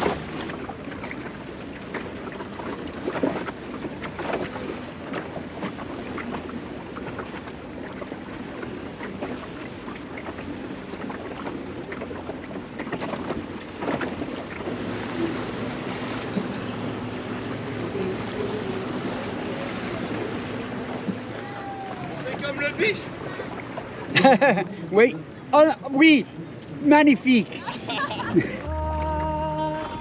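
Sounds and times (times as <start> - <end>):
water lapping against hull: 0.0 - 30.0.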